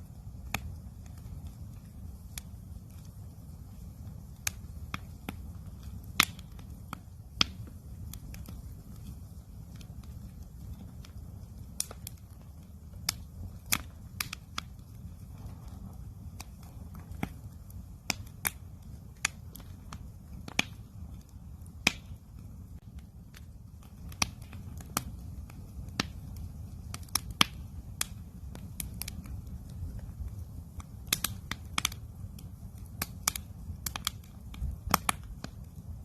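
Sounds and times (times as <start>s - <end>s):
campfire crackling: 0.0s - 36.0s
sharp pops of fire: 0.0s - 36.0s
steady low rumble: 0.0s - 36.0s.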